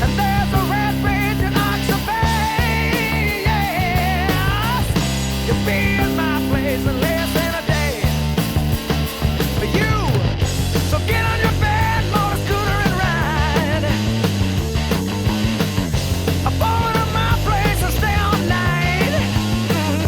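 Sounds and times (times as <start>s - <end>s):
electric guitar bent notes: 0.0s - 20.0s
hard rock band playing: 0.0s - 20.0s.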